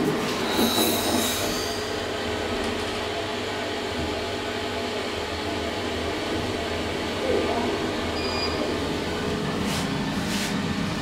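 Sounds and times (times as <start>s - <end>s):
elevator hum and rumble: 0.0s - 11.0s.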